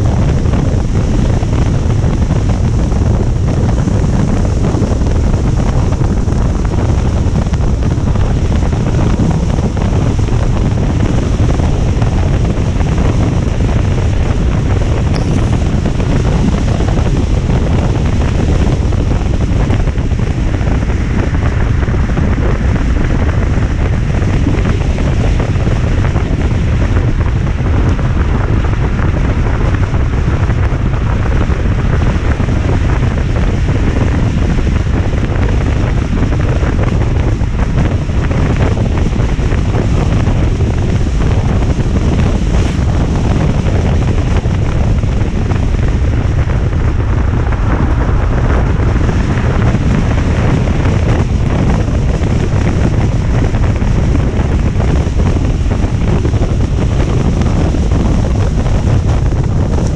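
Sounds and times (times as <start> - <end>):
rain and wind rushing: 0.0 - 59.9
wind rumble on microphone: 0.0 - 59.9.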